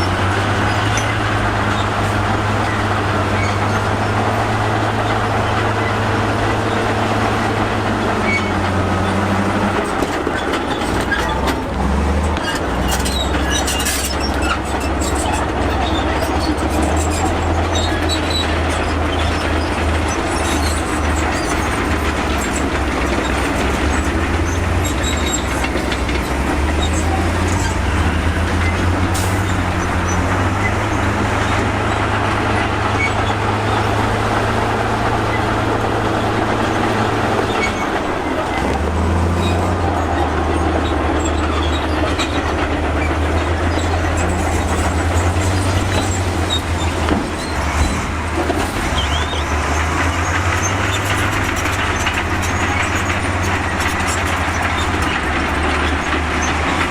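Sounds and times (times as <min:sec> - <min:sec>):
bulldozer diesel engine running: 0:00.0 - 0:56.9
steel tracks clanking and squealing: 0:00.0 - 0:56.9.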